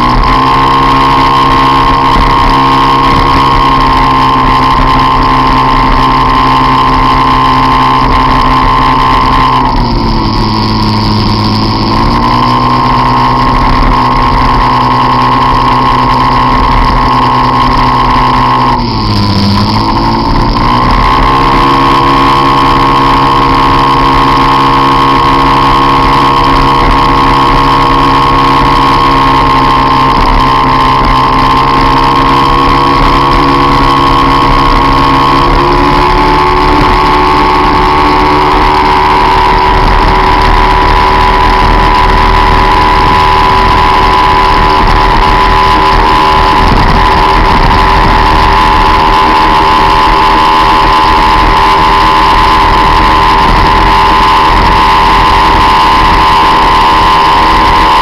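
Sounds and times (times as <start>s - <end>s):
scooter engine revving: 0.0s - 58.0s.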